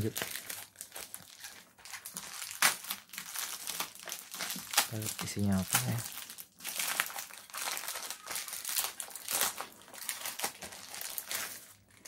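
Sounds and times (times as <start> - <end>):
foil crinkling and rustling: 0.0 - 12.0.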